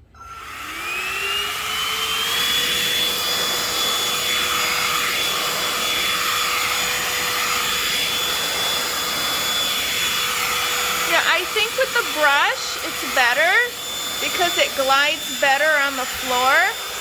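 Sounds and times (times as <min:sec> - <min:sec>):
handheld vacuum cleaner running: 0:00.0 - 0:17.0.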